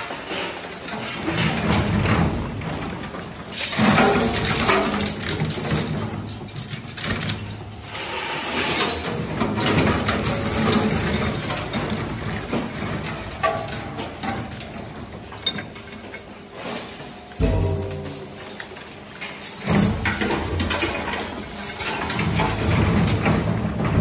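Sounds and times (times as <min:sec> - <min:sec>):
metal shredder grinding and crunching: 0:00.9 - 0:24.0.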